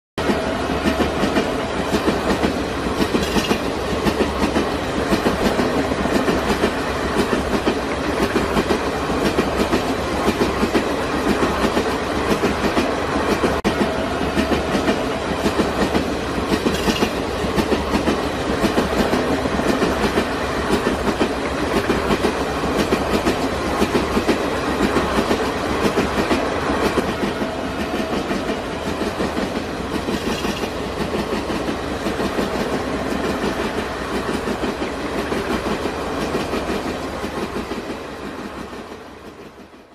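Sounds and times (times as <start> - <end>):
train wheels clattering over rail joints: 0.2 - 39.7.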